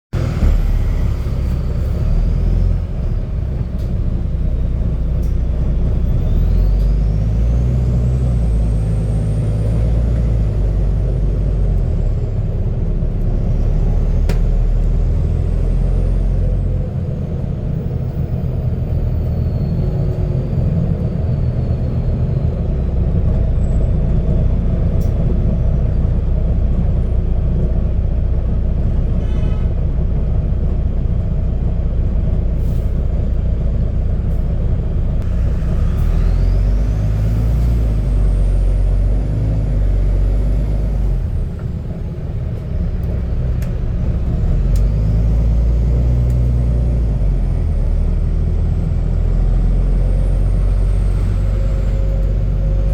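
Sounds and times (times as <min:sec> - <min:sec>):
bus diesel engine rumble: 0:00.1 - 0:52.9.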